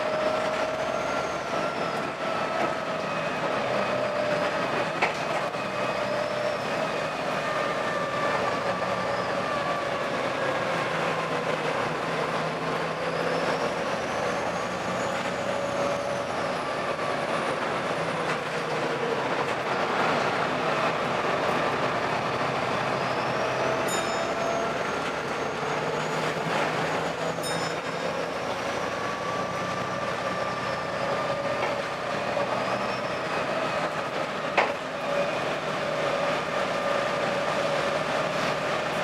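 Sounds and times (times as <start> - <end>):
bus diesel engine droning: 0.0 - 39.0
high engine whine: 0.0 - 39.0.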